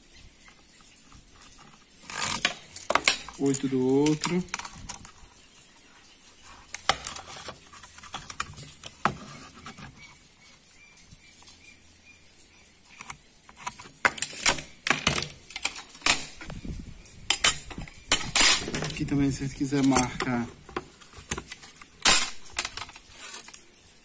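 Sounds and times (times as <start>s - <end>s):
tape measure and tools on wood: 0.4s - 5.5s, 6.3s - 10.6s, 12.8s - 24.0s.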